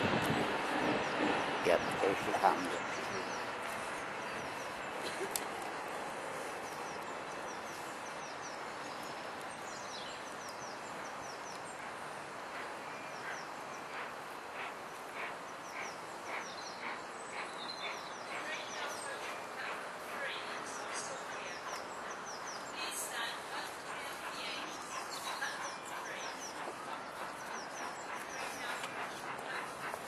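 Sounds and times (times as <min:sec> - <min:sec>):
distant steam locomotive chuffing: 0:00.0 - 0:30.0
small birds chirping: 0:00.1 - 0:30.0.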